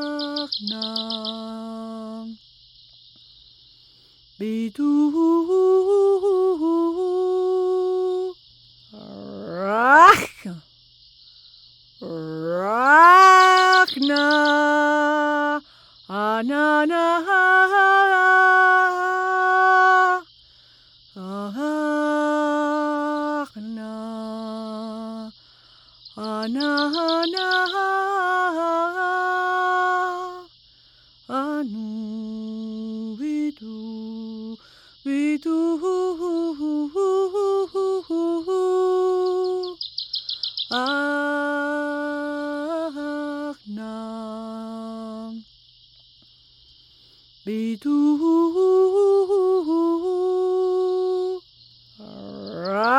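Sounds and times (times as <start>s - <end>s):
woman singing held vowel tones: 0.0s - 2.4s, 4.4s - 10.6s, 12.0s - 20.3s, 21.1s - 25.4s, 26.1s - 30.5s, 31.3s - 45.5s, 47.4s - 52.9s.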